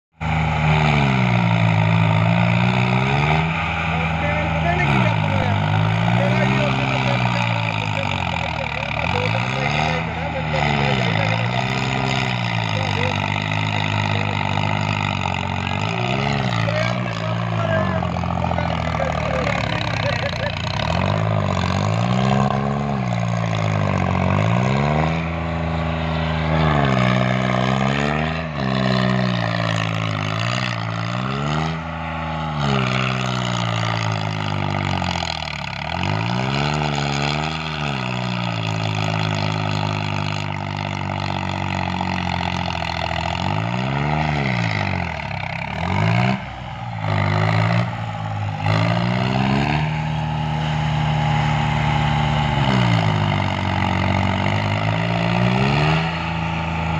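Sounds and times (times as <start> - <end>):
tractor diesel engine revving: 0.0 - 56.9.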